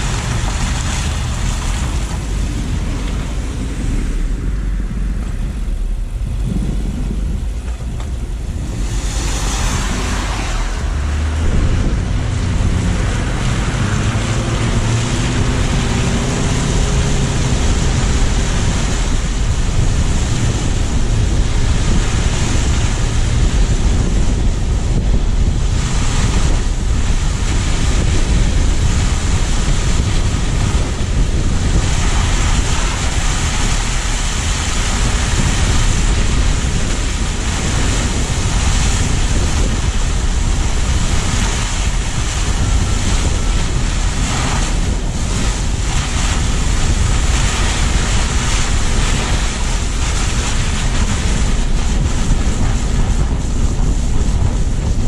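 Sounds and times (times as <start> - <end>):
tyre and road noise: 0.0 - 55.0
wind rushing on microphone: 0.0 - 55.0.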